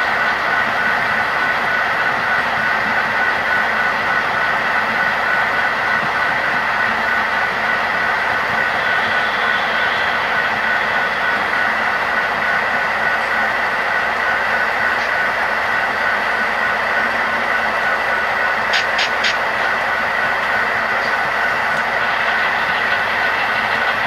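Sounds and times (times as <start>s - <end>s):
model train wheels rumbling: 0.0s - 24.0s.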